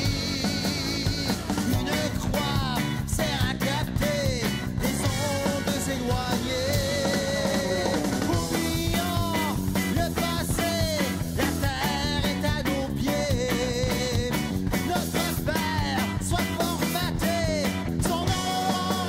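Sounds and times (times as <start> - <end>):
drum kit: 0.0 - 19.0
electric bass: 0.0 - 19.0.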